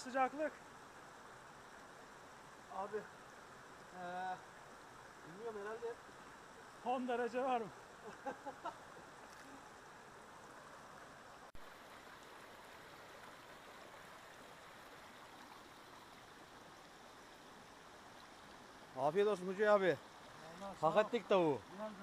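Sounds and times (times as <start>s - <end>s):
faint creek flowing: 0.0s - 22.0s.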